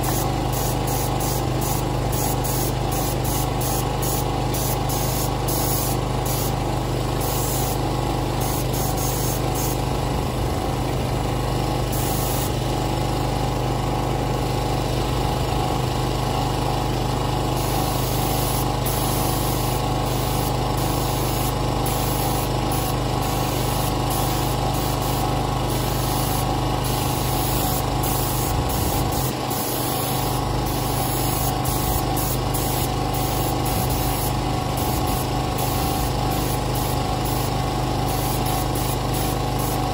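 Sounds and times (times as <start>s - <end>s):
paint spray gun hissing: 0.0s - 14.2s, 14.8s - 39.9s
small engine humming: 0.0s - 39.9s.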